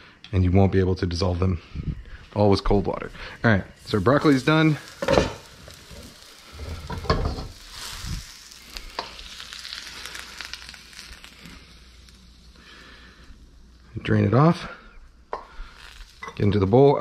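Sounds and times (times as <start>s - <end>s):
hot water pouring hiss: 3.0s - 17.0s.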